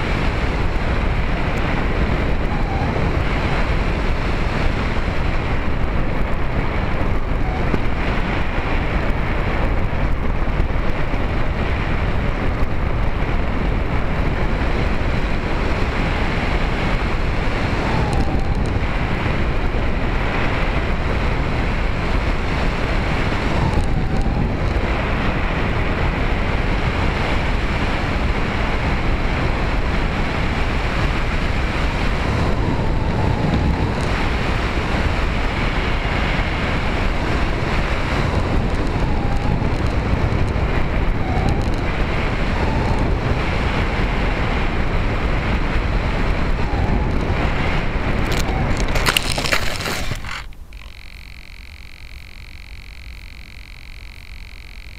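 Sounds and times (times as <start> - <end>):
electric motor and propeller whine: 0.0 - 54.9
wind rush: 0.0 - 54.9.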